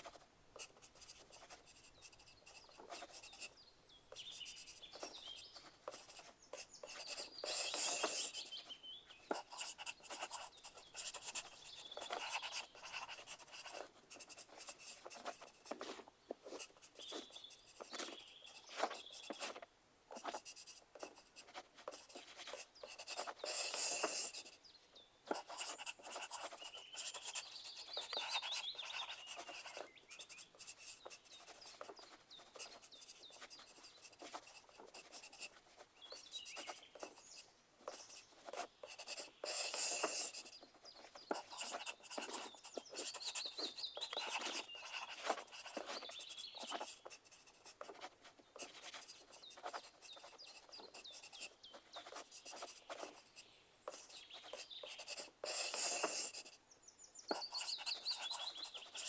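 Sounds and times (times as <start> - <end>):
pencil scratching on paper: 0.0 - 8.7, 9.3 - 24.6, 25.3 - 56.6, 57.3 - 59.0.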